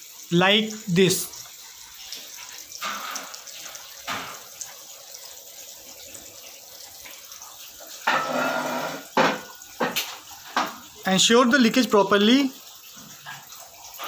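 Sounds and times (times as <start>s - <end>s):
water flowing through purifier: 0.0s - 14.0s.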